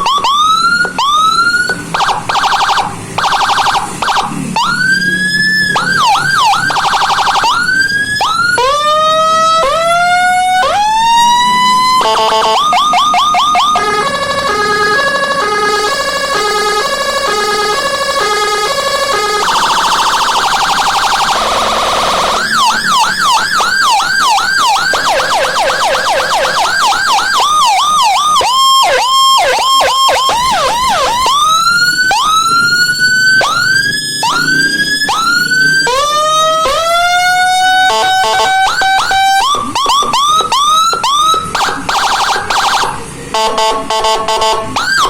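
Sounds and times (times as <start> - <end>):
police siren cycling tones: 0.0 - 45.0.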